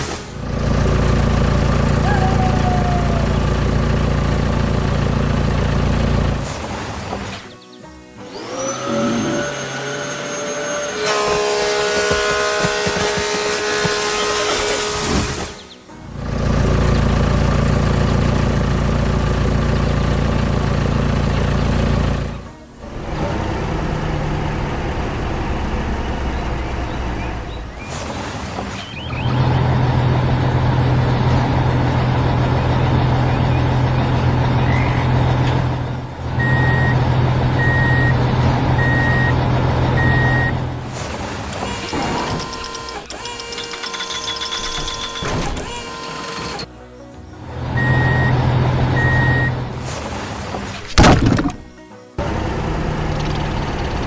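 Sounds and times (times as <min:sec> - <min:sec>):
heavy vehicle engines running: 0:00.0 - 0:07.7, 0:08.3 - 0:54.0
truck reversing beeper: 0:00.4 - 0:06.4, 0:08.3 - 0:28.0, 0:28.8 - 0:41.0, 0:41.6 - 0:46.7, 0:47.4 - 0:49.8.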